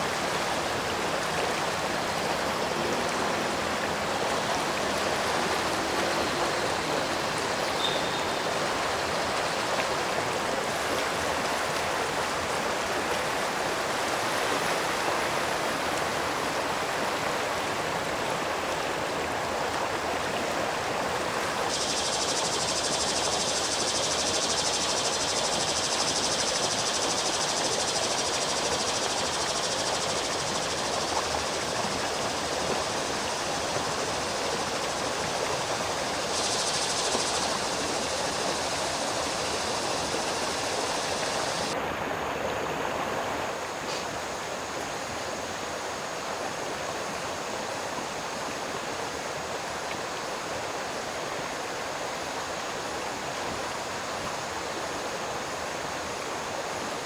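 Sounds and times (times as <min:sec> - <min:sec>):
high steady hiss: 0:00.0 - 0:57.0
stream rushing: 0:00.0 - 0:57.0.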